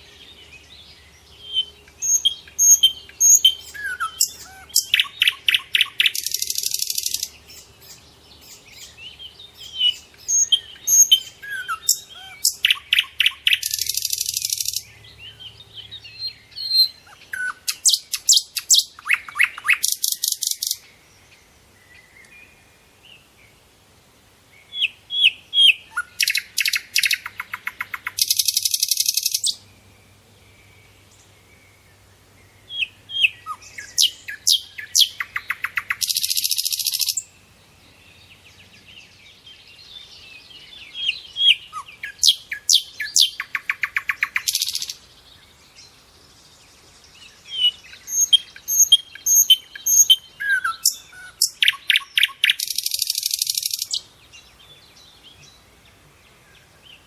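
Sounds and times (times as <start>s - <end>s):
songbird singing trill: 0.0s - 57.0s.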